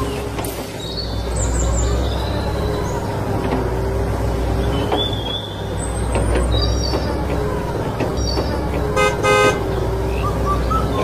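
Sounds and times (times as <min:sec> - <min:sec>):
birds chirping: 0:00.0 - 0:03.4, 0:04.5 - 0:11.0
low engine rumble: 0:00.0 - 0:11.0.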